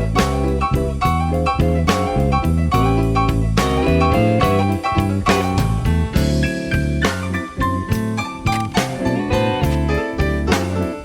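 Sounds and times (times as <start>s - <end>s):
bass: 0.0s - 11.0s
drums with steady beat: 0.0s - 11.0s
plucked guitar: 0.0s - 11.0s.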